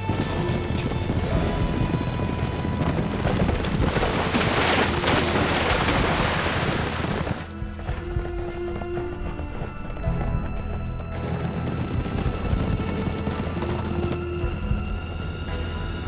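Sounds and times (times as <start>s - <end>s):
background music: 0.0s - 16.0s
horses galloping: 0.0s - 16.0s.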